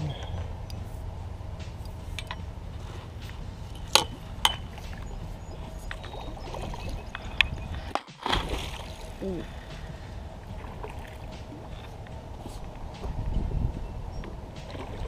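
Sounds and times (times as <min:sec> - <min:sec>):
water splashing: 0:00.0 - 0:13.3, 0:14.1 - 0:15.0
wind on microphone: 0:00.0 - 0:15.0.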